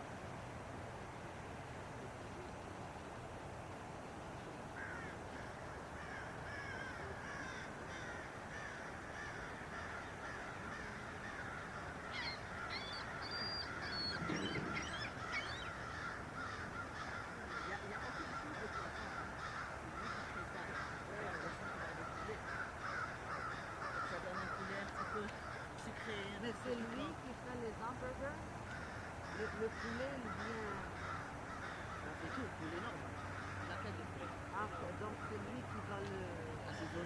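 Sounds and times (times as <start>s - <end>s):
birds calling: 4.4s - 28.0s, 28.6s - 37.0s.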